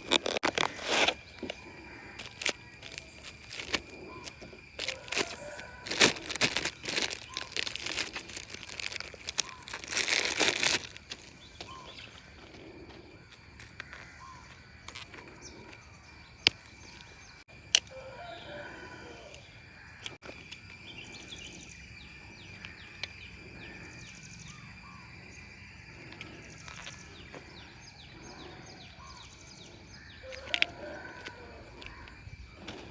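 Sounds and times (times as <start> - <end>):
birds chirping: 0.0 - 17.5, 18.5 - 32.9.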